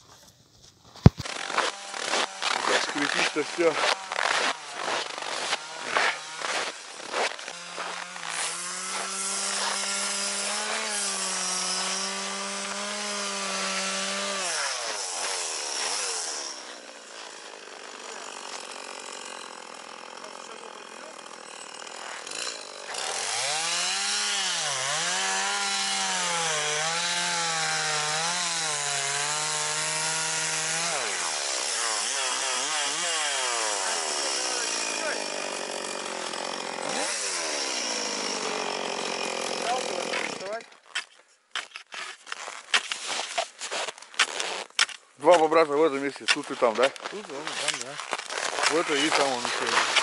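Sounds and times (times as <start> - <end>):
chainsaw revving: 1.2 - 40.7, 47.0 - 50.0.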